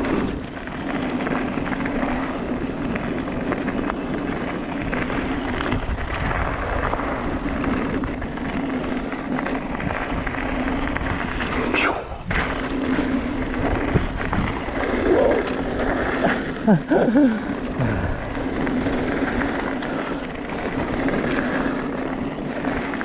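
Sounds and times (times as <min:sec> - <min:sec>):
tyres on gravel: 0:00.0 - 0:23.0
wind on microphone: 0:00.0 - 0:23.0.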